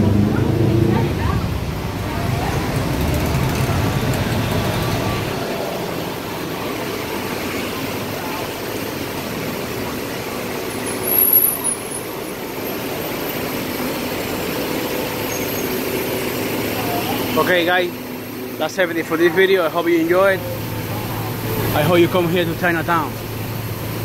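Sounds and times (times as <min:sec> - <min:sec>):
murmur of voices: 0:00.0 - 0:24.0
road traffic: 0:00.0 - 0:24.0
vehicle engine rumbling: 0:00.0 - 0:24.0.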